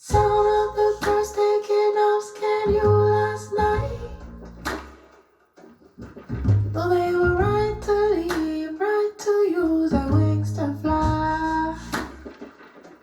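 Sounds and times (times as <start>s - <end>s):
song with vocals guitar and bass: 0.0s - 5.0s, 6.4s - 12.3s.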